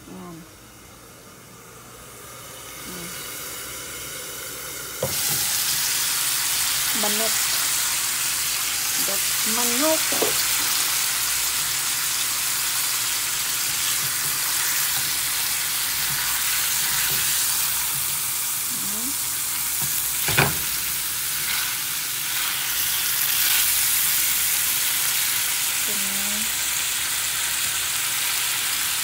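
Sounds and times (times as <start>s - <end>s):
chicken sizzling in a pan: 2.2s - 29.0s.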